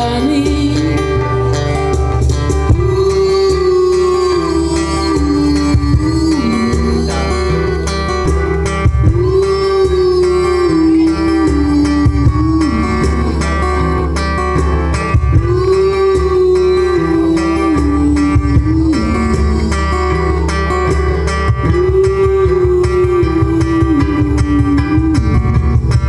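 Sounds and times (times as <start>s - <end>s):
cajon beat: 0.0s - 26.0s
small plucked string instrument: 0.0s - 26.0s
strummed acoustic guitar: 0.0s - 26.0s
slow melody of long notes: 0.1s - 26.0s.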